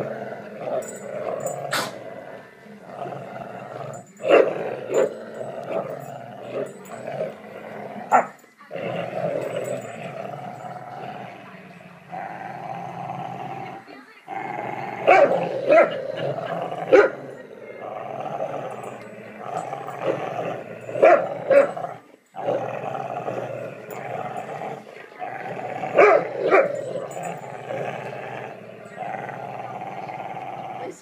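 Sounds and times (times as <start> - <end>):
dogs growling in play: 0.0 - 31.0.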